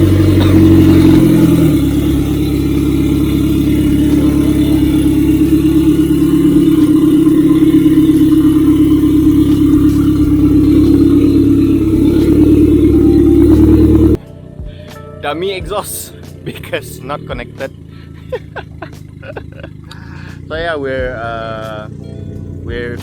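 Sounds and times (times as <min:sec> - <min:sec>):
unmuffled engine drone: 0:00.0 - 0:15.0, 0:15.6 - 0:23.0.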